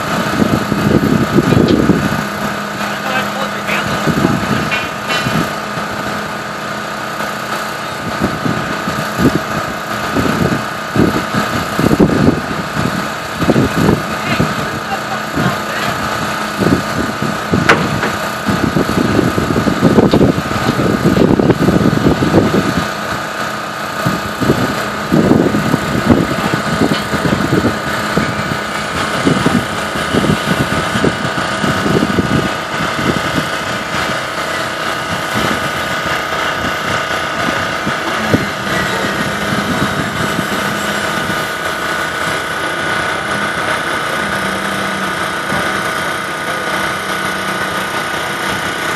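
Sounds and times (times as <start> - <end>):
low rumbling: 0.0 - 48.9
machinery engine whining: 0.0 - 48.9.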